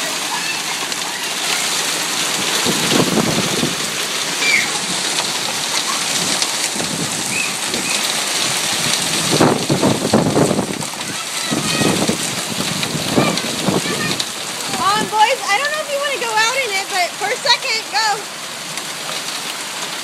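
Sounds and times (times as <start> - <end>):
hail and rain clattering: 0.0 - 20.0.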